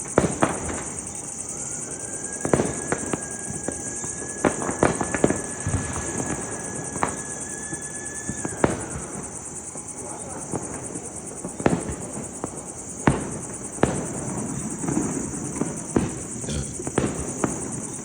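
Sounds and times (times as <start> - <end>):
crickets chirring: 0.0 - 18.0
firecrackers banging: 2.2 - 9.7, 10.5 - 18.0.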